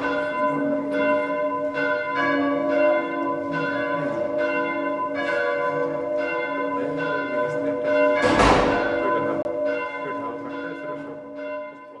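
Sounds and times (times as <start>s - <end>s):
church bells ringing: 0.0s - 12.0s
harsh bell clang: 0.0s - 12.0s.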